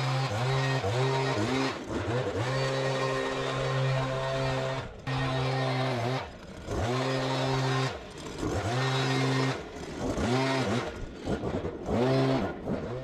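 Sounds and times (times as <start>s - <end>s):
leaf blower engine revving: 0.0s - 13.0s.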